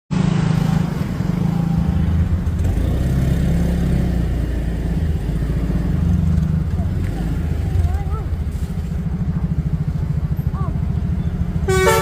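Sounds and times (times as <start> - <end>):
bus with stepped low tones: 0.1 - 12.0.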